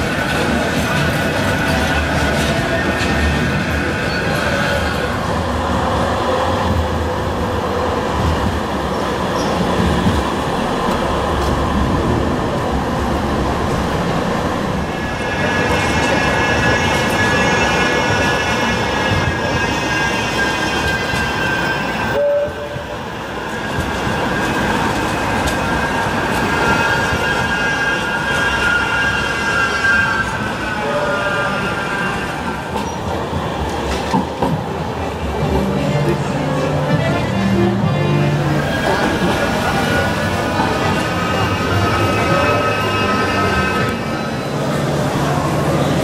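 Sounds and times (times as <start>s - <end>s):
high whine from tram: 0.0s - 46.0s
street noise: 0.0s - 46.0s
trams running past: 0.0s - 46.0s.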